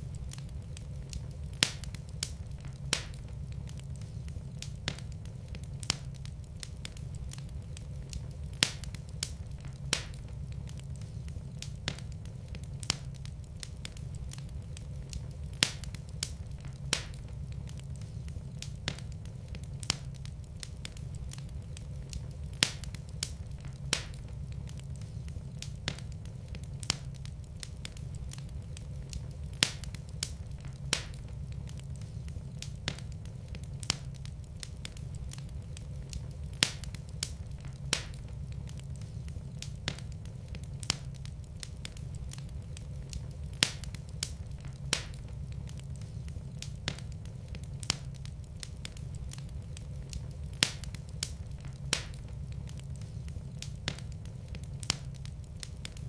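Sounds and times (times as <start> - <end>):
low rumble of fire: 0.0 - 56.0
wood fire crackling: 0.0 - 56.0.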